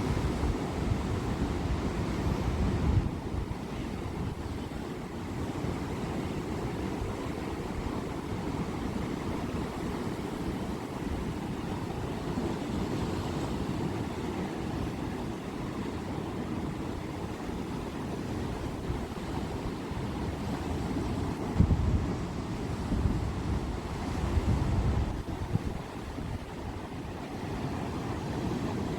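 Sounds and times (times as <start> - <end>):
sea waves washing ashore: 0.0 - 28.9.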